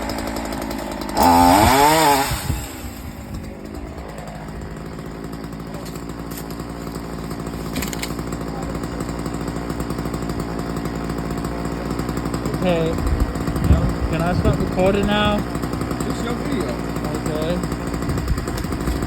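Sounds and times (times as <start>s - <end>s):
chainsaw engine revving and idling: 0.0s - 19.0s.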